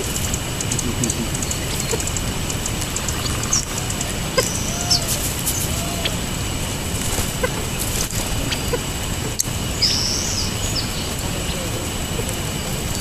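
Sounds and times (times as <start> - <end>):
quail clucking: 0.0 - 13.0
songbirds chipping and chirping: 0.0 - 13.0
steady background noise: 0.0 - 13.0.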